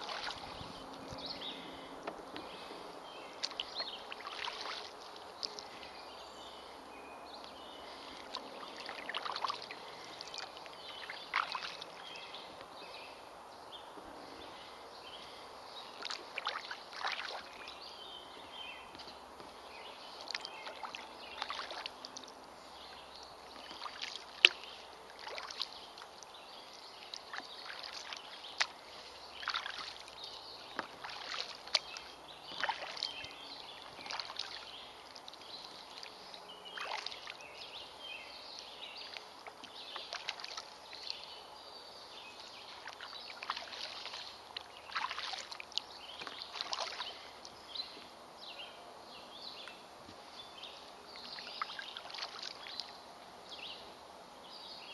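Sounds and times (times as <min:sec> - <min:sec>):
paddle strokes splashing water: 0:00.0 - 0:06.8, 0:07.6 - 0:13.1, 0:14.3 - 0:41.4, 0:42.1 - 0:48.1, 0:49.5 - 0:53.0.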